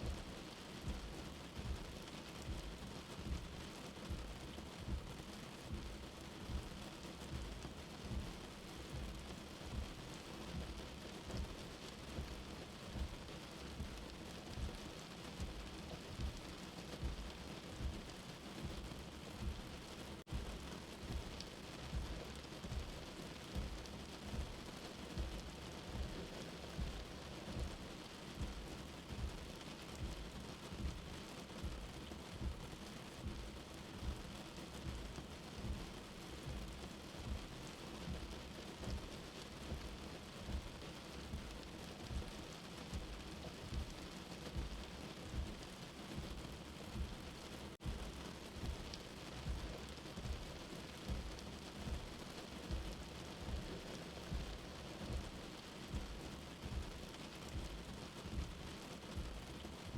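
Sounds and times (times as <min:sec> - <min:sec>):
slow heartbeat: 0:00.0 - 0:59.9
steady rain: 0:00.0 - 0:59.9.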